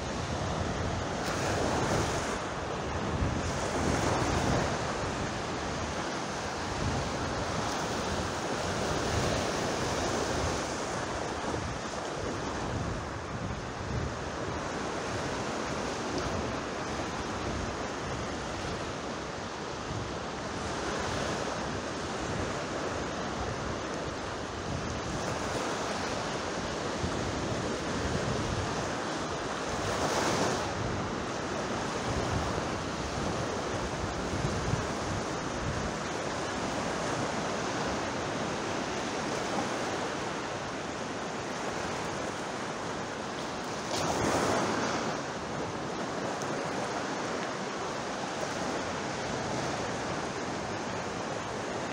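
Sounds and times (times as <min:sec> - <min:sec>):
sea waves washing ashore: 0:00.0 - 0:51.9.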